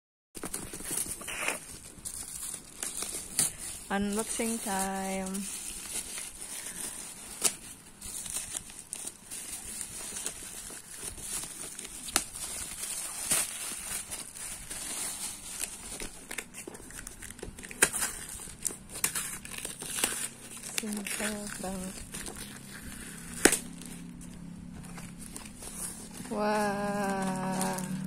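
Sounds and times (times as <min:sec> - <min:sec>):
packing tape pulled on cardboard box: 0:00.4 - 0:28.0
plastic bag crinkling and tearing: 0:00.4 - 0:28.0.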